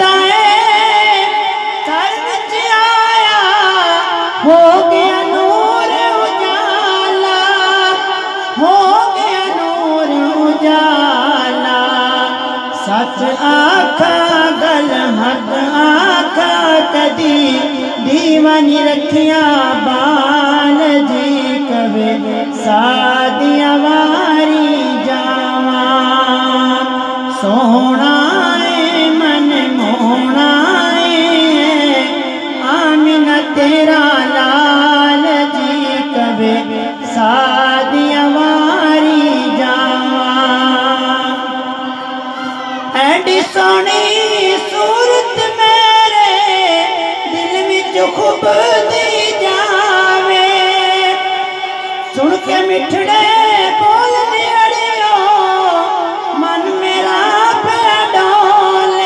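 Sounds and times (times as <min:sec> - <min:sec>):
man singing unaccompanied: 0:00.0 - 0:59.0.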